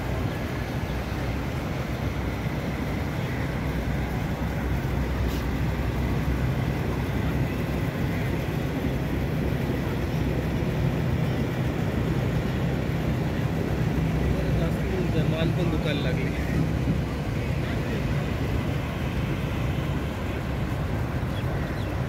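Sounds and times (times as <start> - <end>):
boat engine droning: 0.0 - 22.0
wind and water hiss: 0.0 - 22.0.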